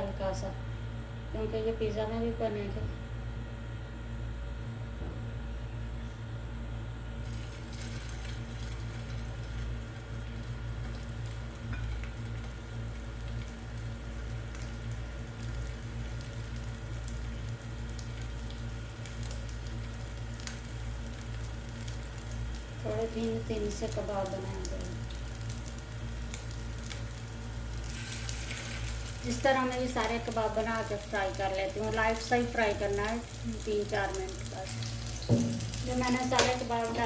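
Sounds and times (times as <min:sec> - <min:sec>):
kababs sizzling in a pan: 0:07.3 - 0:37.0.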